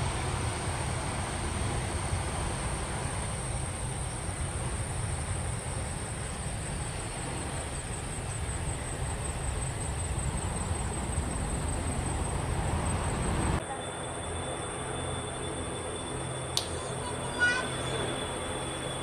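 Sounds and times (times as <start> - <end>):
jet engines rumbling: 0.0 - 19.0
high insect trill: 0.1 - 19.0.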